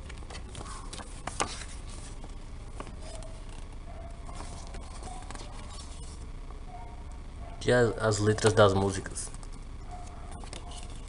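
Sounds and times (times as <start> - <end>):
paper booklet rustling and crackling: 0.0 - 6.3, 8.2 - 11.0.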